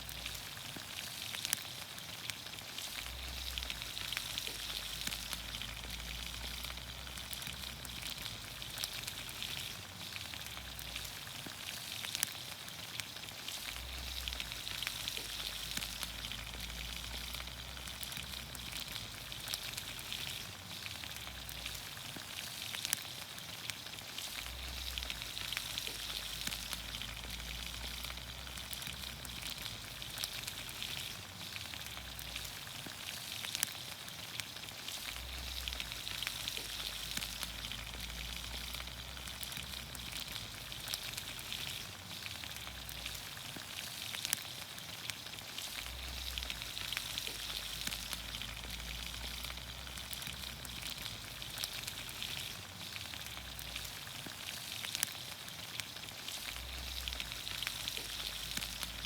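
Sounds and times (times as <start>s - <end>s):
sharp pops and crackles: 0.0s - 59.0s
vegetables sizzling in a pan: 0.0s - 59.0s.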